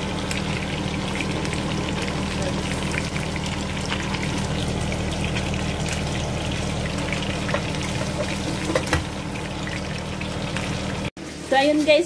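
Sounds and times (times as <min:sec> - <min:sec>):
fish sizzling in hot oil: 0:00.0 - 0:12.0
oil popping and crackling: 0:00.0 - 0:12.0.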